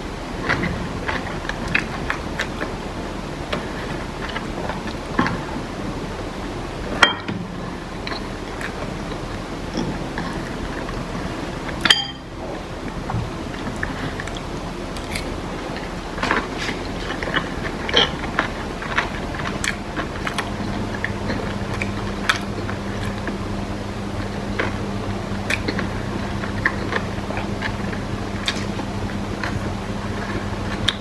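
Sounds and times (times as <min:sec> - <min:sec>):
low steady hum: 0:00.0 - 0:31.0
chewing and biting food: 0:00.3 - 0:31.0.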